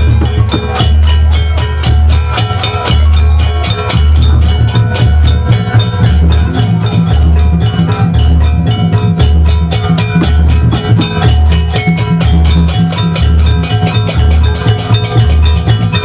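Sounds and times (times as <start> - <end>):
gamelan music over loudspeakers: 0.0 - 16.0.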